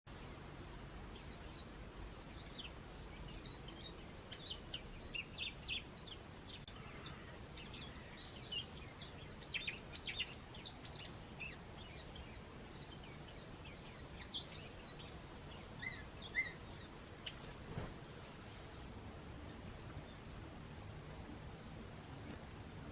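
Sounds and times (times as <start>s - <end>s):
small birds chirping: 0.1s - 22.9s.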